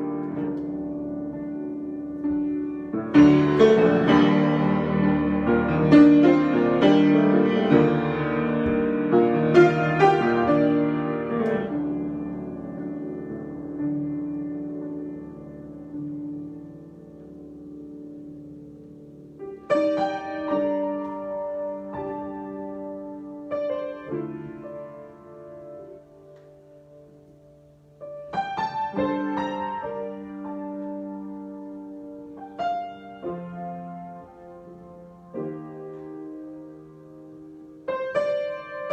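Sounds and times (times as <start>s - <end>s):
solo piano improvising: 0.0s - 38.9s.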